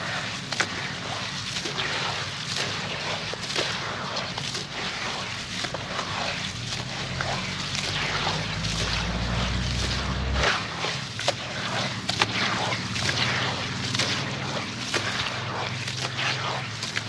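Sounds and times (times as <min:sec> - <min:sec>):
wet mud squelching: 0:00.0 - 0:17.0.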